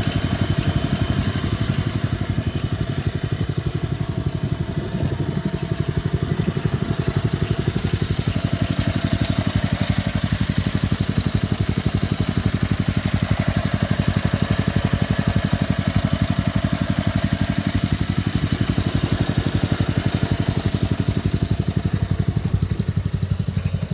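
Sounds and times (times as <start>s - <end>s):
lawn tractor engine running: 0.0s - 23.9s.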